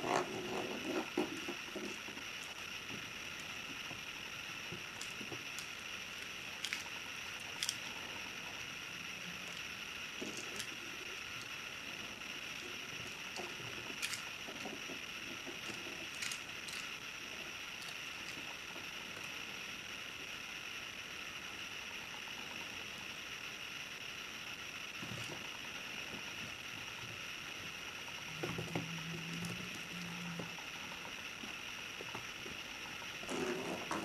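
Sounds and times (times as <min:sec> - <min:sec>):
steady hiss: 0:00.0 - 0:34.0.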